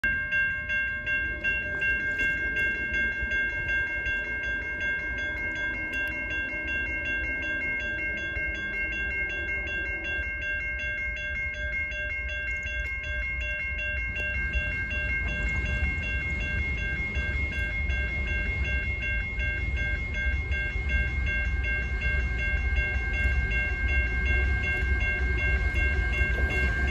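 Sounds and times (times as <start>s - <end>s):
low train rumble: 0.0s - 26.9s
railroad crossing bell ringing: 0.0s - 26.9s.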